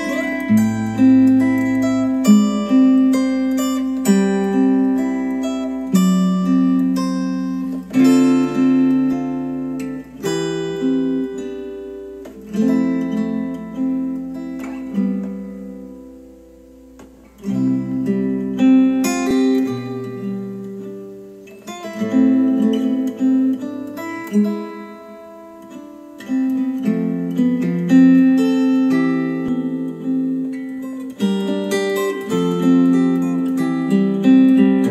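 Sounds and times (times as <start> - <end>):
acoustic guitar music from speakers: 0.0 - 34.9.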